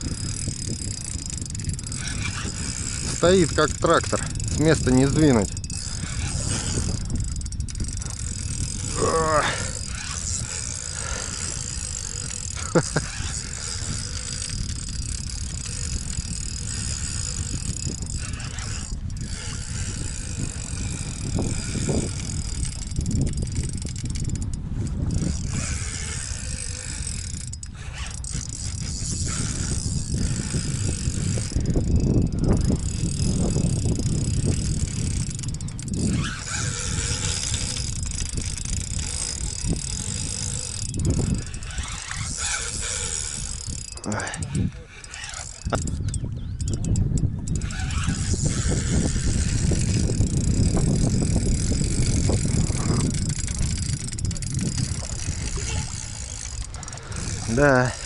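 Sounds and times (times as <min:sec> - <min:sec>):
spinning reel under load: 0:00.0 - 0:58.0.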